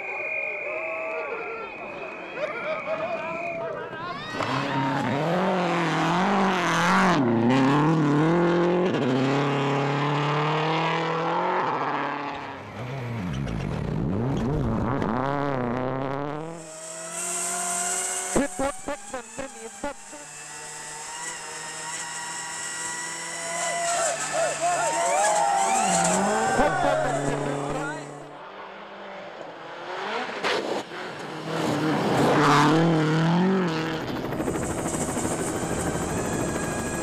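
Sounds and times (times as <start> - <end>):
rally car engine revving: 4.2 - 37.0.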